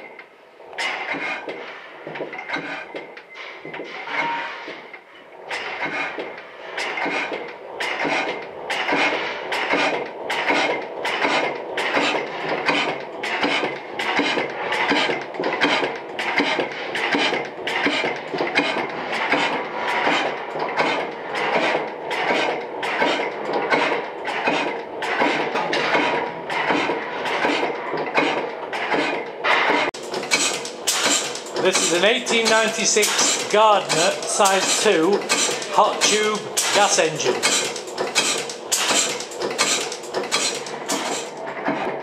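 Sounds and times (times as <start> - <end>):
gas engine running: 0.0 - 42.0
clattering metal parts: 0.8 - 42.0.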